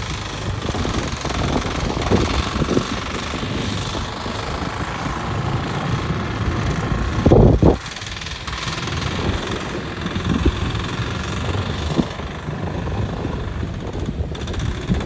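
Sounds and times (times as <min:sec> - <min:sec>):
boat engine running: 0:00.0 - 0:15.0
low buffeting: 0:00.0 - 0:15.0
wind on microphone: 0:00.0 - 0:15.0.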